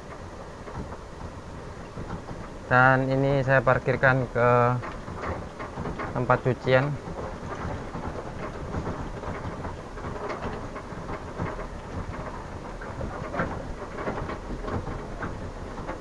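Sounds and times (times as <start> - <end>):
cab rattling and knocking: 0.0 - 16.0
truck engine rumbling: 0.0 - 16.0.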